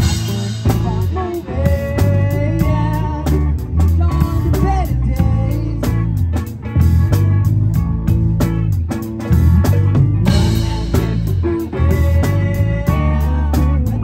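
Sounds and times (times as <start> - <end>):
live band playing: 0.0 - 14.0
loud drum kit: 0.0 - 14.0.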